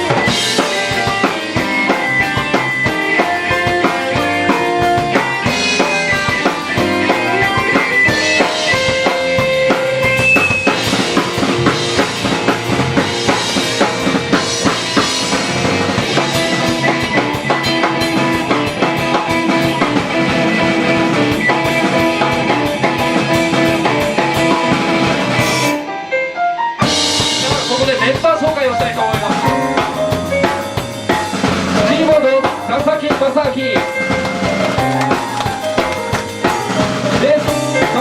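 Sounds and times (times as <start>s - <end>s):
bass guitar: 0.0s - 38.0s
drum kit: 0.0s - 38.0s
electric guitar: 0.0s - 38.0s.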